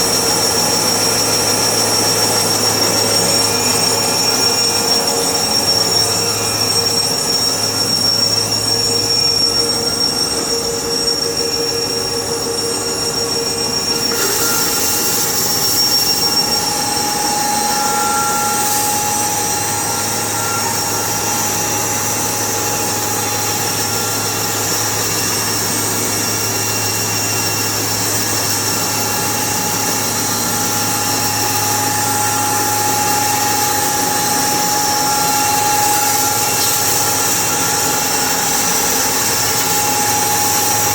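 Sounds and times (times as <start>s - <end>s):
sawmill whine and hum: 0.0s - 40.9s.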